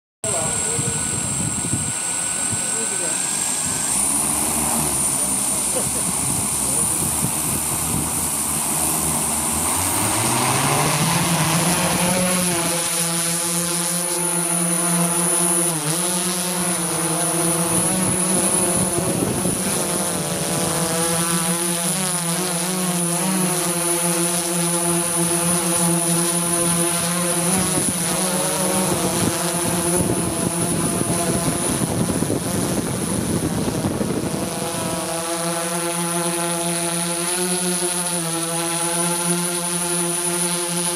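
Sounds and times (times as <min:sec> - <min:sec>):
drone propellers buzzing: 0:00.2 - 0:40.9
thin high whine: 0:00.2 - 0:40.9.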